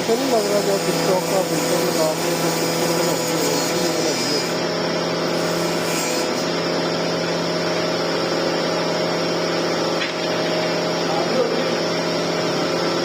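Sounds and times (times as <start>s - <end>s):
motor humming steadily: 0.0s - 13.0s.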